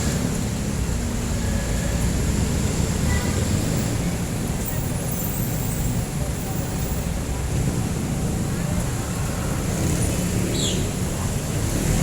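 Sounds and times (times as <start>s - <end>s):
diesel engines rumbling in traffic: 0.0s - 12.0s.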